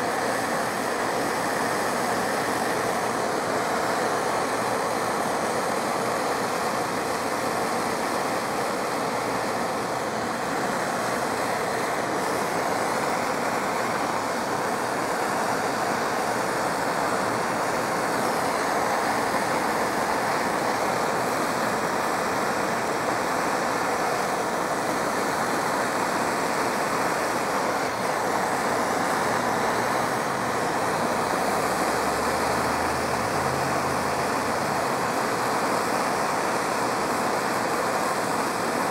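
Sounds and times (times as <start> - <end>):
hand torch hissing: 0.0 - 38.9.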